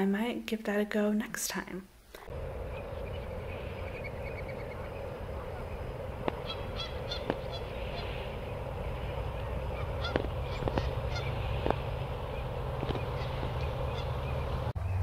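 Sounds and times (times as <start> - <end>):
waterfowl calling: 2.2 - 14.7
steady low rumble: 2.2 - 15.0.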